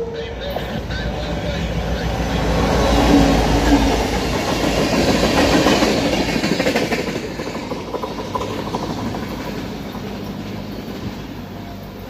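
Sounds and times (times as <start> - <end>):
diesel locomotive engines running: 0.0 - 12.0
train wheels rolling over rails: 0.0 - 12.0.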